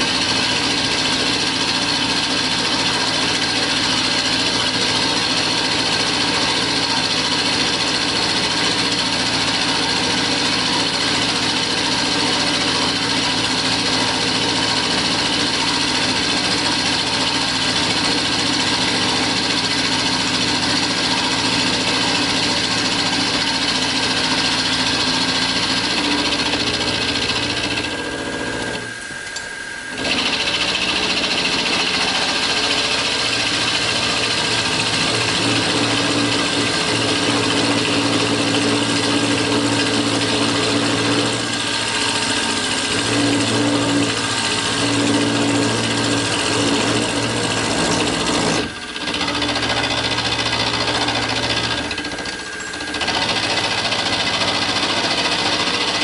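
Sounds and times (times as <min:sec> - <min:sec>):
end mill cutting iron: 0:00.0 - 0:56.0
milling machine whine: 0:00.0 - 0:56.0.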